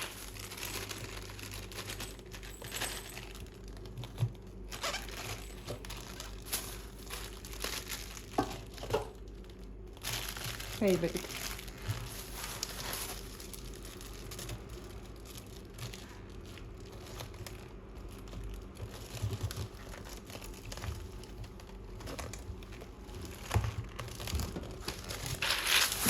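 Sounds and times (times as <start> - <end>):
crinkling and rustling: 0.0 - 26.0.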